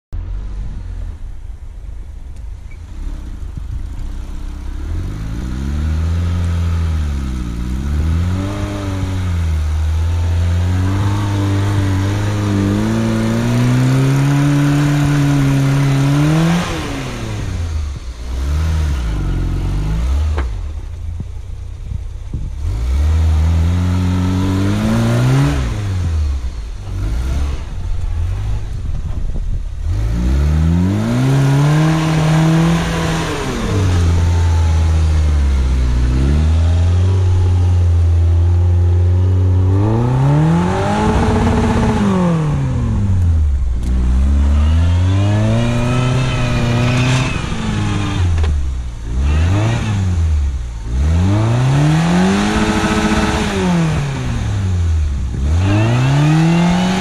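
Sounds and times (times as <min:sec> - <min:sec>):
jeep engine revving: 0:00.2 - 0:57.0.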